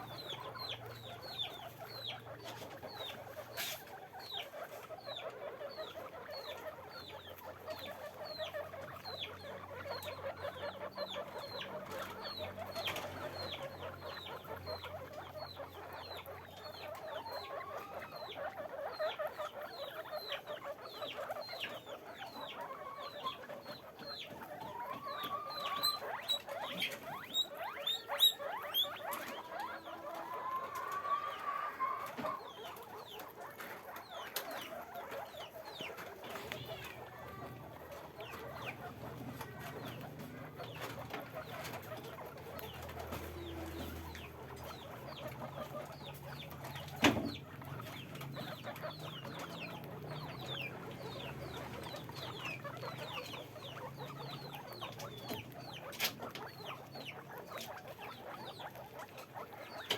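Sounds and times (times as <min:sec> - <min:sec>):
guinea pigs squeaking: 0:00.0 - 0:59.9.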